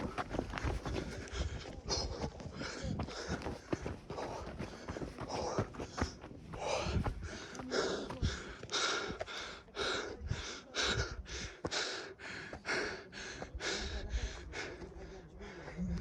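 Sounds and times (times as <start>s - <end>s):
person panting hard: 0.0s - 15.8s.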